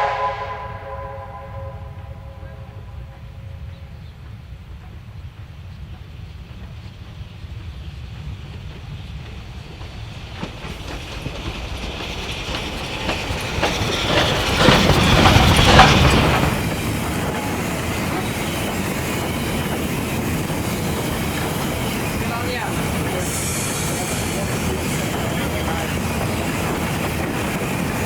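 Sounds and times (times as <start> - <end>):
steam train passing: 0.0 - 28.0
wheels clacking over rail joints: 4.3 - 28.0.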